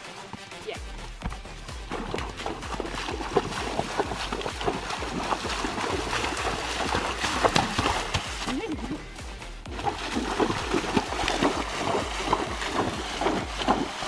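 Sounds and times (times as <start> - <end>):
hooves splashing in water: 1.0 - 14.0.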